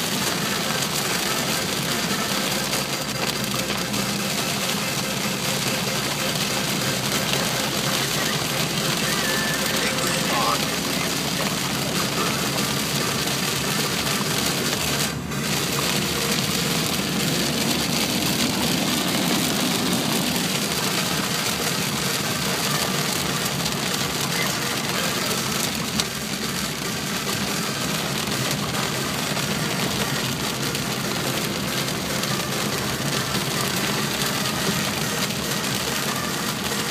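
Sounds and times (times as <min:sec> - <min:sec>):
heavy rain on car roof: 0:00.0 - 0:36.9
tyre and engine noise: 0:00.0 - 0:36.9.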